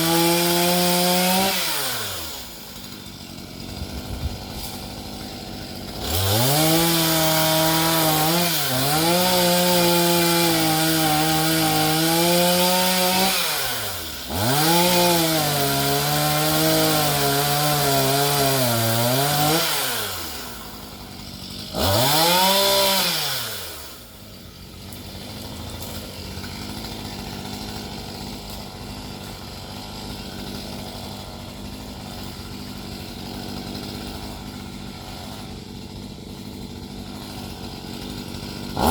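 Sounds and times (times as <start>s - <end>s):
chainsaw idling: 0.0s - 38.9s
chainsaw revving: 0.0s - 38.9s.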